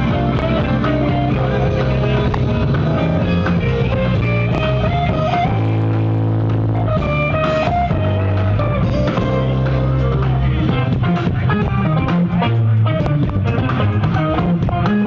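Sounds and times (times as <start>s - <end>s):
drums: 0.0s - 15.0s
electric guitars: 0.0s - 15.0s
keyboard: 0.0s - 15.0s.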